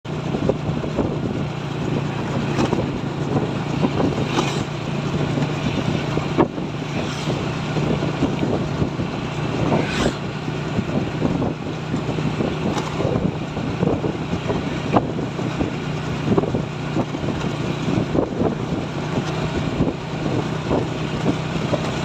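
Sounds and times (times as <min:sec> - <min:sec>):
road and wind noise: 0:00.0 - 0:22.0
truck engine drone: 0:00.0 - 0:22.0.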